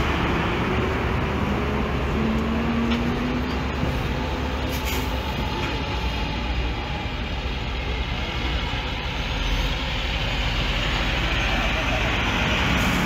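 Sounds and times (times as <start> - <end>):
diesel trucks rumbling past: 0.0 - 13.0.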